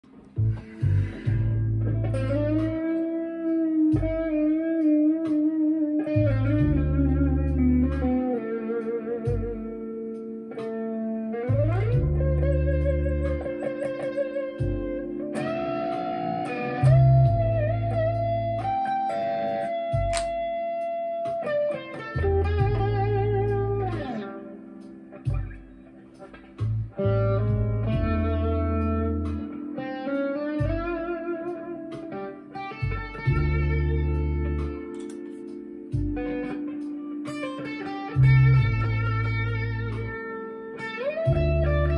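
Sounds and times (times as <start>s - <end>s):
overdriven electric guitar lead: 0.0s - 41.9s.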